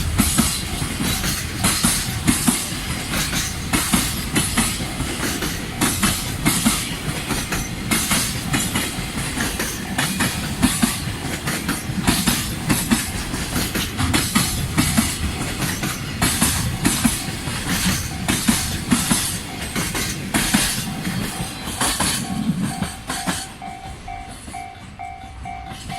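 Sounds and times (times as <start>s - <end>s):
freight train rumble: 0.0s - 25.9s
train wheels clacking over rail joints: 0.0s - 25.9s.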